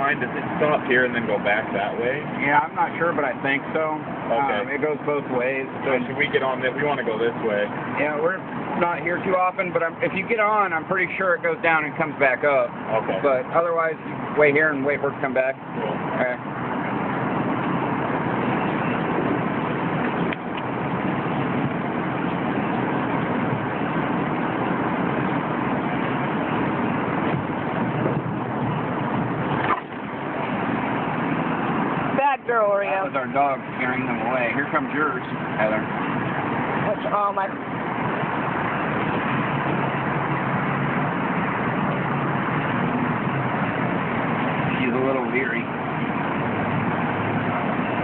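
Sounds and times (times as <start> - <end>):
steady vehicle noise: 0.0 - 48.0.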